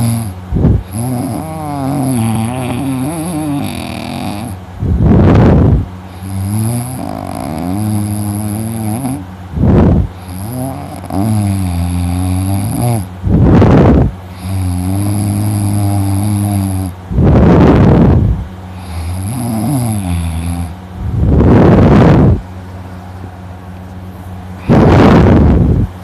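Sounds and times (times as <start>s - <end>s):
man snoring heavily: 0.0s - 22.4s, 24.6s - 25.7s.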